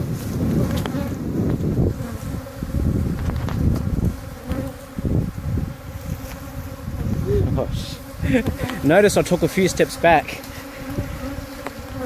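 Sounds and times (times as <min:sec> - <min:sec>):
bees buzzing loudly: 0:00.0 - 0:12.0.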